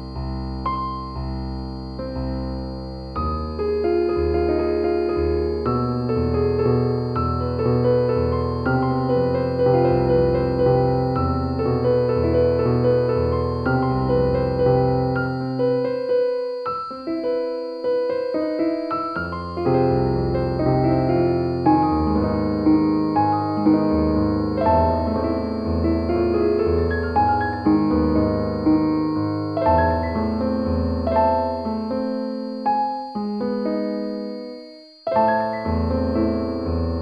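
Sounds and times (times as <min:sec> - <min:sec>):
faint steady high tone: 0:00.0 - 0:37.0
slow solo piano music: 0:00.0 - 0:37.0.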